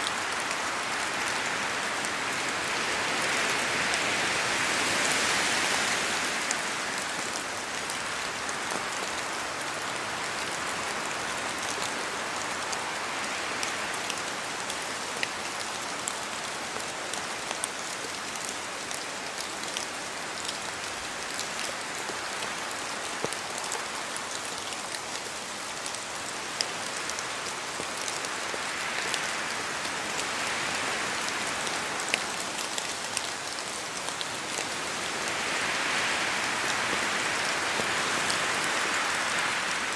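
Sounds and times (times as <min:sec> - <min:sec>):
rain falling through trees: 0:00.0 - 0:39.9.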